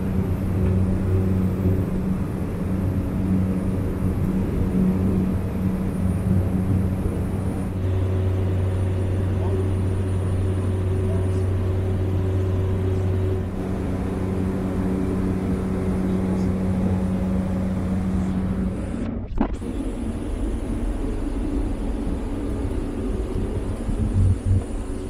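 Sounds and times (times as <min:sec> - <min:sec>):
low hum tones: 0:00.0 - 0:25.0
turboprop engine drone: 0:00.0 - 0:25.0.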